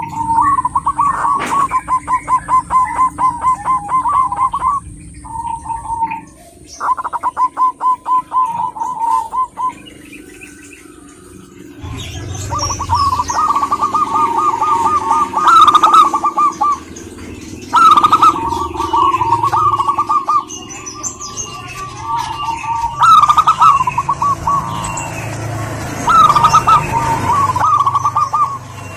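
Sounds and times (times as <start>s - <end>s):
doves cooing: 0.0s - 28.9s
small birds chirping: 0.0s - 28.9s.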